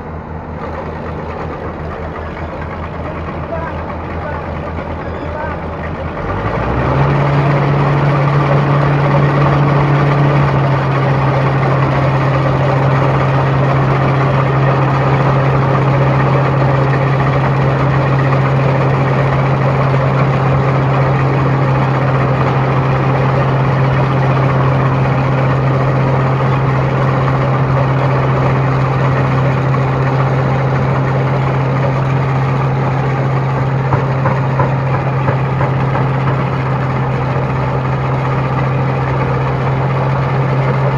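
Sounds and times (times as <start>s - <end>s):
harvester engine running: 0.0s - 40.9s.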